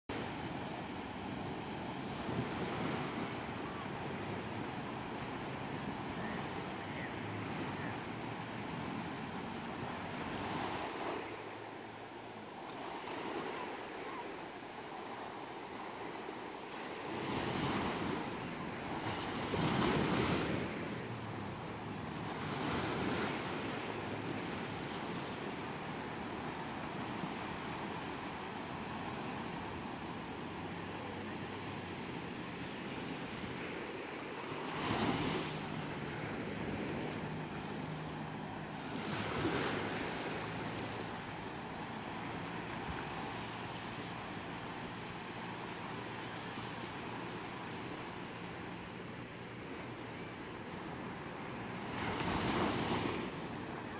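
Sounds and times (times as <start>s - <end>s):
small waves breaking on sand: 0.1s - 53.9s.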